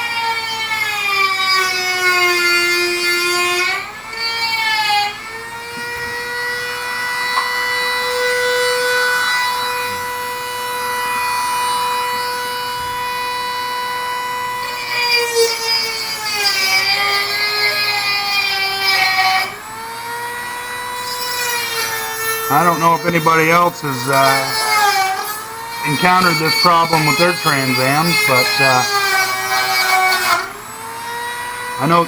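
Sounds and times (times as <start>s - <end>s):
rotary tool grinding metal: 0.0s - 32.0s.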